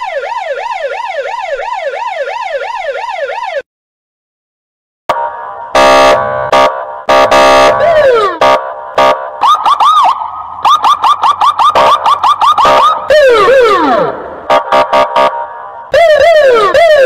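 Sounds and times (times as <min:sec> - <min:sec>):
police siren: 0:00.0 - 0:03.7, 0:05.1 - 0:17.0.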